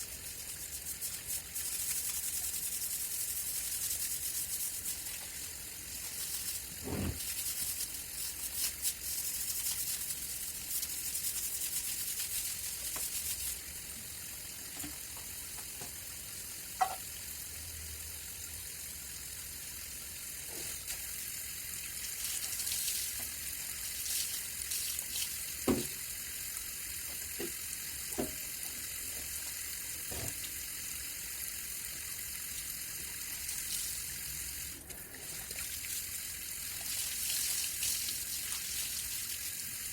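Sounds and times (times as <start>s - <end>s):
running water hissing: 0.0s - 39.9s.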